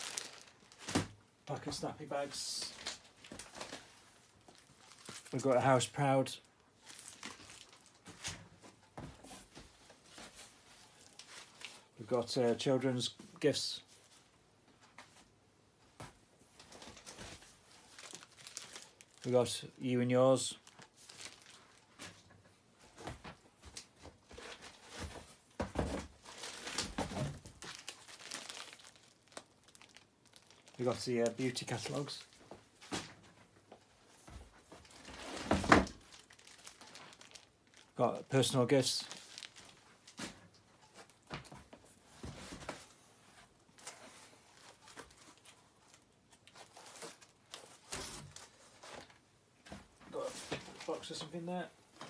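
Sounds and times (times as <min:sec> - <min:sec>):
paper and plastic rustling: 0:00.0 - 0:14.2, 0:16.5 - 0:19.6, 0:20.3 - 0:52.0.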